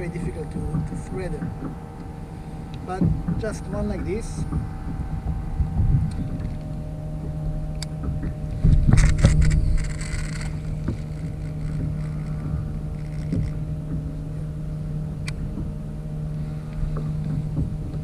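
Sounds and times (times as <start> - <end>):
constant low hum: 0.0 - 18.0
wind and water rumble: 0.0 - 18.0.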